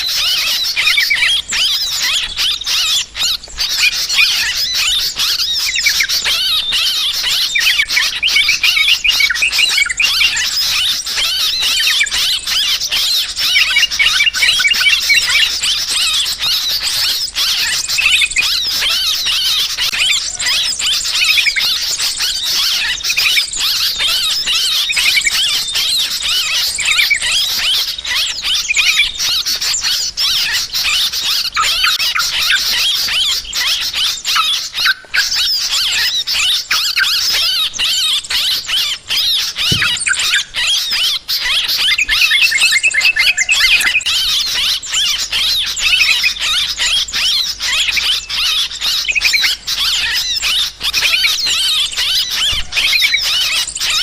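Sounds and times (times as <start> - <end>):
bulbuls chattering calls: 0.0 - 54.0.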